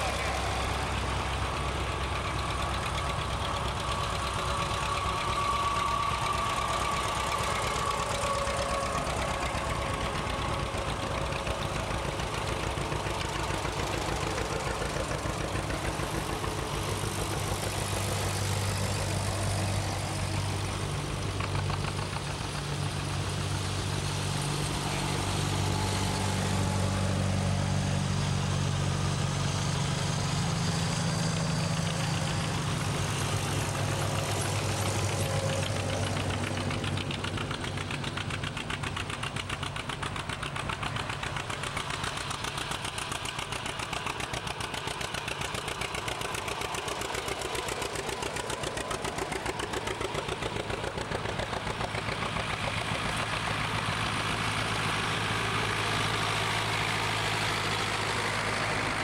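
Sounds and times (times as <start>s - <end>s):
tractor engines driving past: 0.0s - 59.0s.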